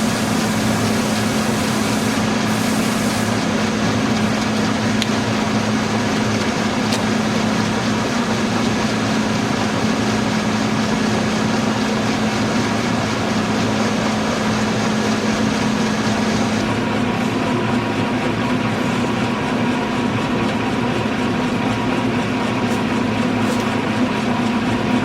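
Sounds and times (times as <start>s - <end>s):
lathe motor humming: 0.0s - 25.0s.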